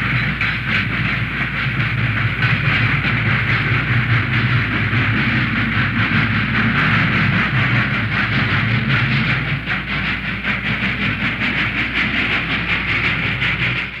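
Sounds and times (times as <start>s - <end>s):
low train rumble: 0.0s - 14.0s
rhythmic clatter: 0.0s - 14.0s
train hiss: 0.0s - 14.0s.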